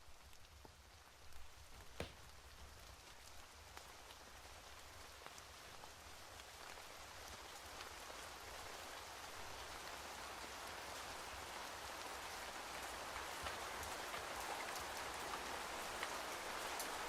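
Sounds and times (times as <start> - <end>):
faint steady rain: 0.0 - 17.0
light ticks of raindrops: 0.0 - 17.0.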